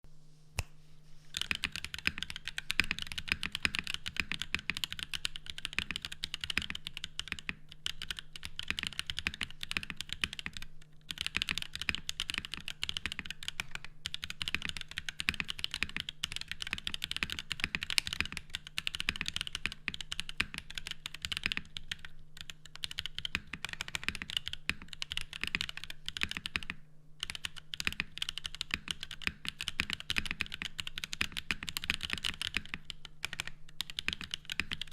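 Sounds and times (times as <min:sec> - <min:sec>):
fast typing on mechanical keyboard: 0:01.4 - 0:34.9.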